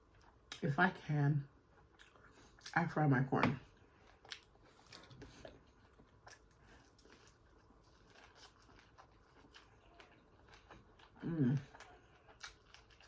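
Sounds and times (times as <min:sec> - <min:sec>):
crunching and chewing food: 0:01.6 - 0:02.9, 0:03.6 - 0:13.0.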